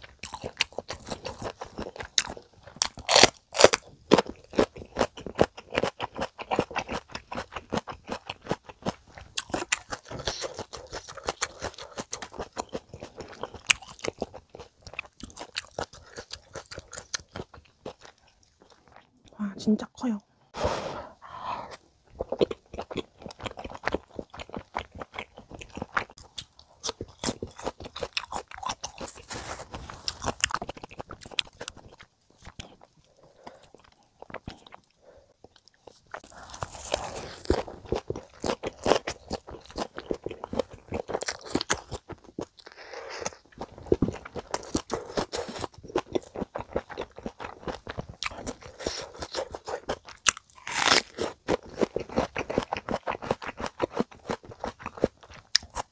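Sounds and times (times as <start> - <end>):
close chewing and crunching: 0.0 - 19.3, 21.7 - 55.9.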